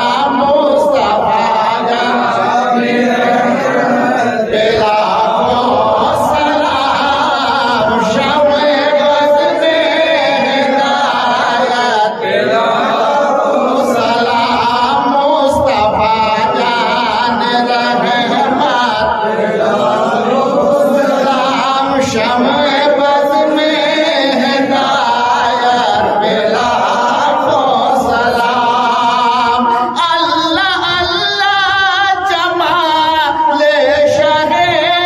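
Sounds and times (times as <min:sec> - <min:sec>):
man singing into a microphone: 0:00.0 - 0:35.0.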